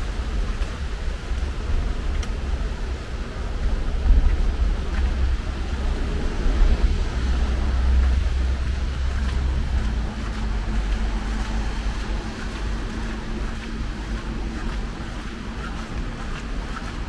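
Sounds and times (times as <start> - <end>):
deep low rumble: 0.0 - 17.0
rain hiss: 0.0 - 17.0
road traffic noise: 0.0 - 17.0
faint engine-like hum: 2.6 - 17.0.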